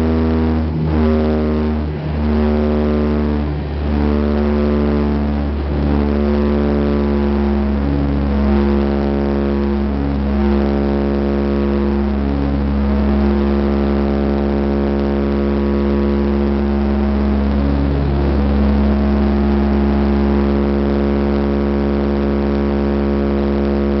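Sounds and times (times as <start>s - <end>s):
engine rumble: 0.0s - 24.0s
turboprop propeller hum: 0.0s - 24.0s.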